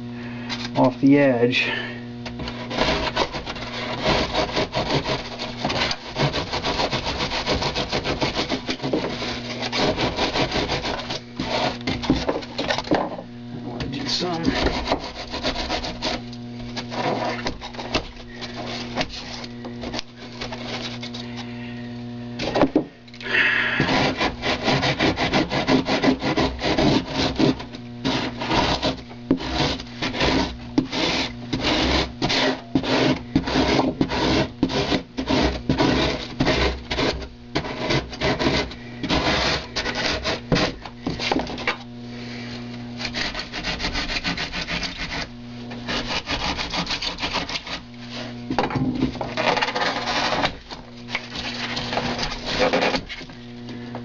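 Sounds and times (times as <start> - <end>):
steady low hum: 0.0 - 54.0
hand saw cutting foam board: 2.2 - 13.2, 13.9 - 21.4, 22.4 - 41.9, 42.7 - 53.4.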